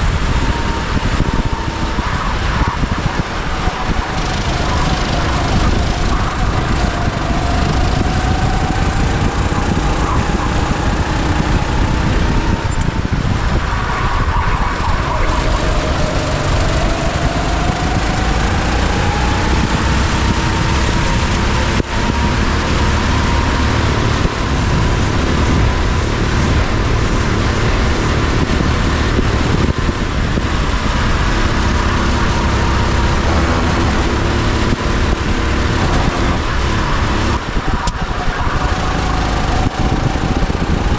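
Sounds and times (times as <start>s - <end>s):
go-kart engine at speed: 0.0s - 40.9s
heavy wind and rumble: 0.0s - 40.9s.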